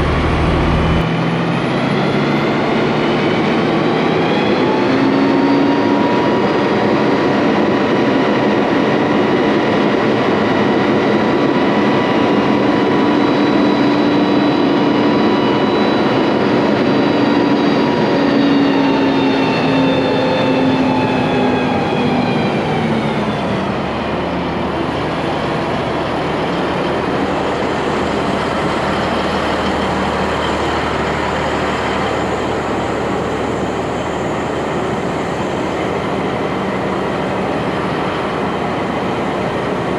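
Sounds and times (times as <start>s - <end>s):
diesel engine droning: 0.0s - 6.8s, 14.5s - 39.9s.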